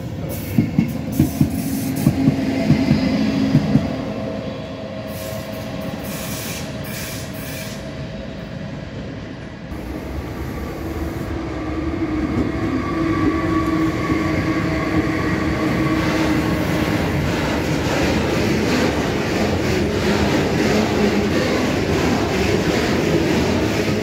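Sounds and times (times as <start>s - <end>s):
electric locomotives whining: 0.0s - 24.0s.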